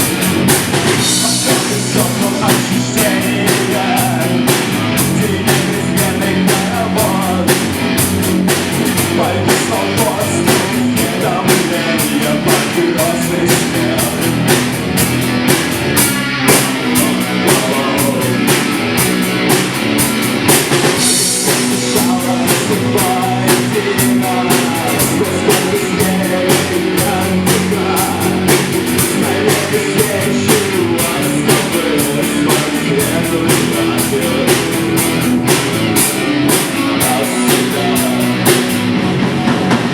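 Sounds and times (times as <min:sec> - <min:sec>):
drum kit fast beat: 0:00.0 - 0:39.9
electric guitars: 0:00.0 - 0:39.9
live rock band playing: 0:00.0 - 0:39.9.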